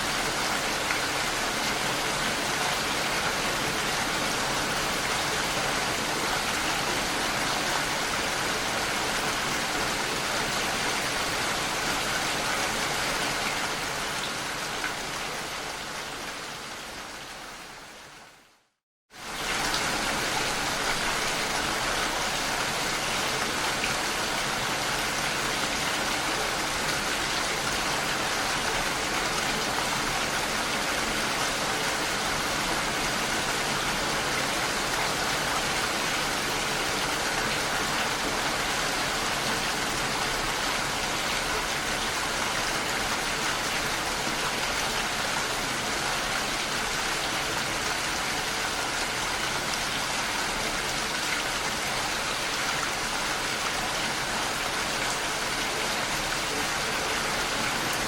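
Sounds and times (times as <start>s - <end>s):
dense rainfall hiss: 0.0s - 58.0s.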